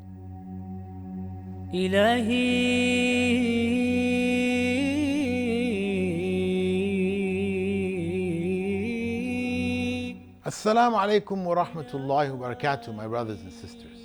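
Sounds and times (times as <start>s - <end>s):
steady low drone: 0.0s - 11.9s
person chanting held notes: 1.8s - 14.0s.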